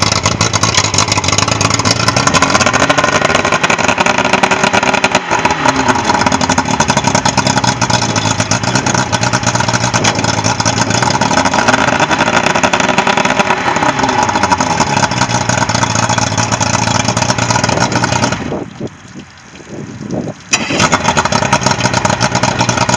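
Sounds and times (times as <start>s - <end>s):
outboard motor running: 0.0s - 19.4s, 20.4s - 22.9s.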